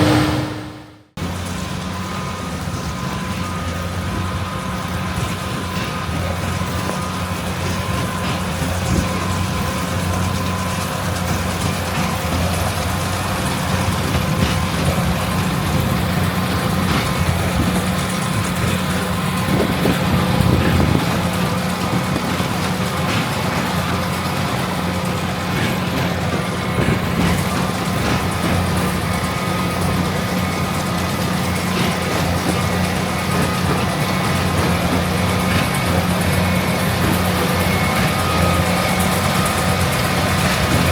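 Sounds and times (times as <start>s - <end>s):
farm machinery engine drone: 0.0s - 40.9s.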